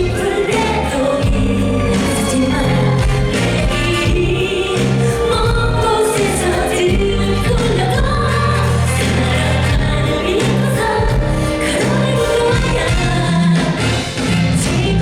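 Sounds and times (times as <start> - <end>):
full band playing pop: 0.0 - 15.0
steady bass line: 0.0 - 15.0
woman singing lead vocal: 0.0 - 15.0.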